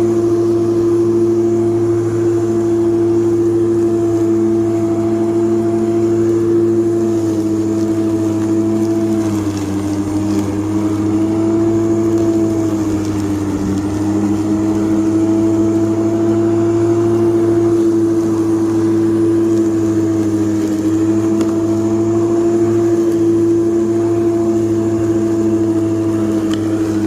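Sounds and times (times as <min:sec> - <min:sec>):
electric lawn mower humming: 0:00.0 - 0:27.0.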